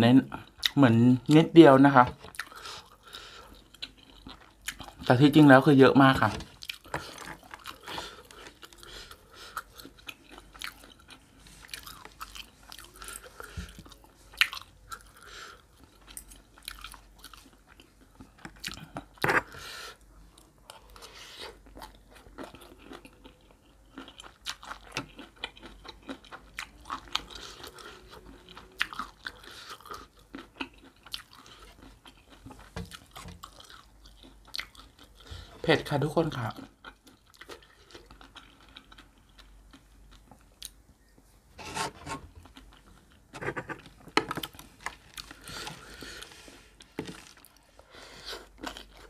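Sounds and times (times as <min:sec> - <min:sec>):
close chewing and crunching: 0:01.8 - 0:41.2, 0:42.3 - 0:49.0.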